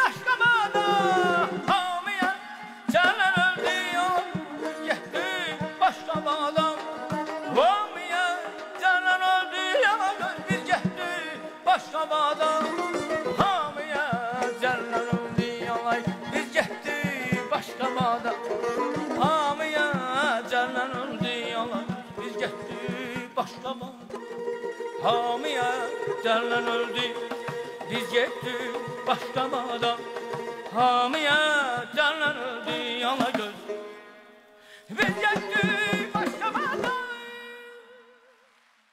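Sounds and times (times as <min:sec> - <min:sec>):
frame drum and barrel drum: 0:00.0 - 0:34.0, 0:34.9 - 0:37.4.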